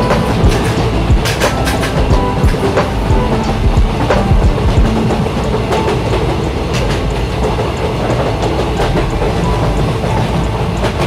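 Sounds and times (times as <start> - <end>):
train coaches rumbling: 0.0 - 11.0
wheels clicking over rail joints: 0.0 - 11.0.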